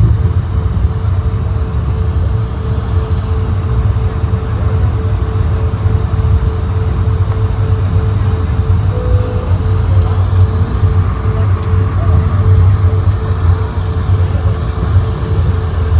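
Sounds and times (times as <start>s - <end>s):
airliner cabin rumble: 0.0s - 15.9s
constant cabin hum: 0.0s - 15.9s.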